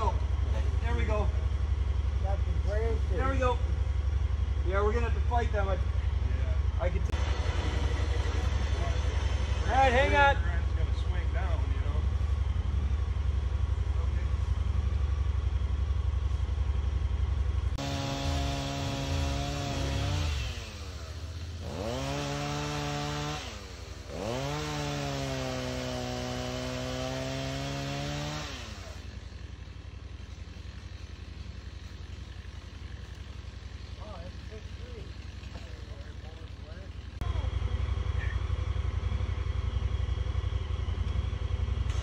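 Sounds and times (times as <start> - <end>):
engine rumbling and revving: 0.0 - 42.0.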